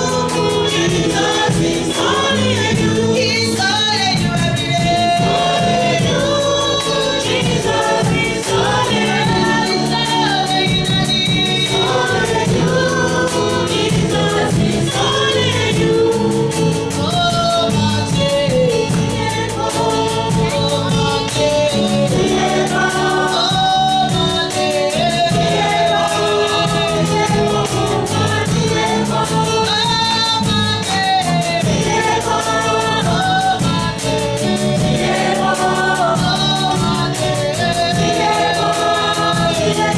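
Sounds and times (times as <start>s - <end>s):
choir singing gospel song: 0.0s - 39.9s
instrumental accompaniment with beat: 0.0s - 39.9s.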